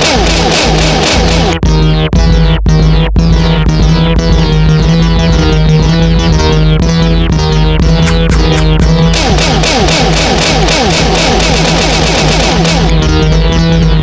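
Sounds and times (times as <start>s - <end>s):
synthesizer and keyboard music: 0.0s - 14.0s.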